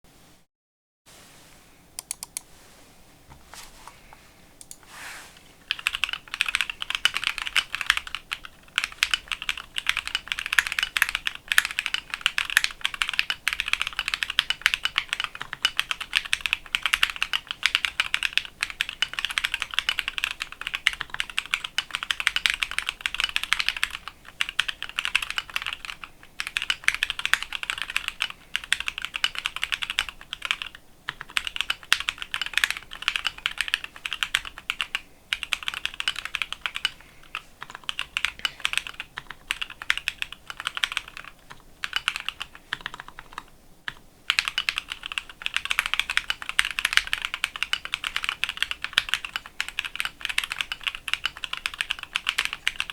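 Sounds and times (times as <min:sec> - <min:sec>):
mechanical keyboard typing: 0:02.0 - 0:02.4, 0:05.7 - 0:52.9.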